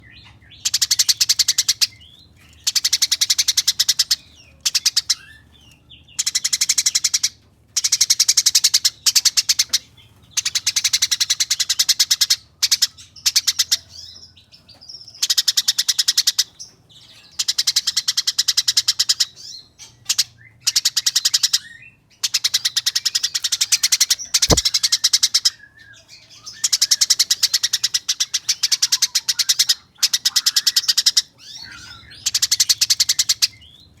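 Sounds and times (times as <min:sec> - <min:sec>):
sparrow harsh rolling chatter: 0:00.0 - 0:20.3, 0:21.0 - 0:24.7, 0:26.2 - 0:34.0.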